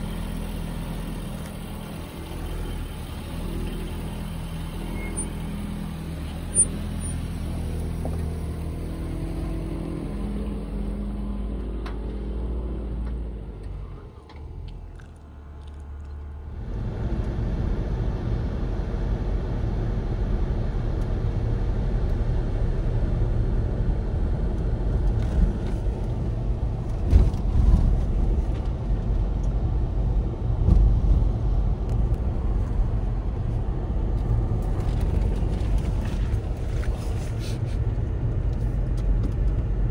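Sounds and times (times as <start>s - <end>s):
car engine running: 0.0s - 39.9s
low rumble: 4.8s - 39.9s.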